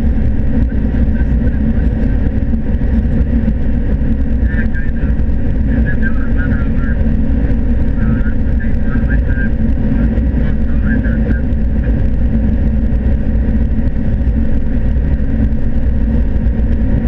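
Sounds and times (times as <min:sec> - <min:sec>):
combine harvester drone from cab: 0:00.0 - 0:17.0.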